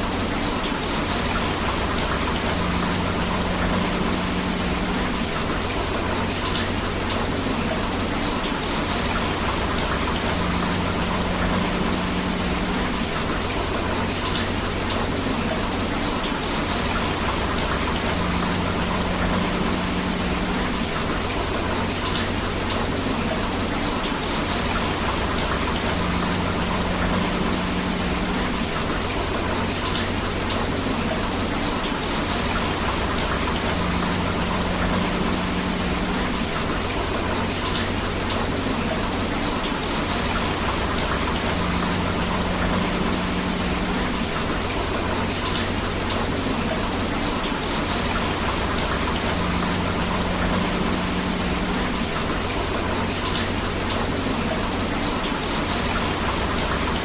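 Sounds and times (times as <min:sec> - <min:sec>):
heavy rain: 0:00.0 - 0:57.0
rushing river water: 0:00.0 - 0:57.0.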